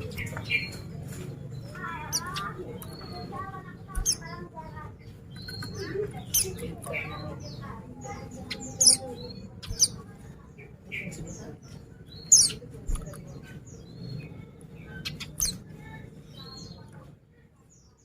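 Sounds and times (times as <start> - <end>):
bird twittering: 0.0 - 16.8.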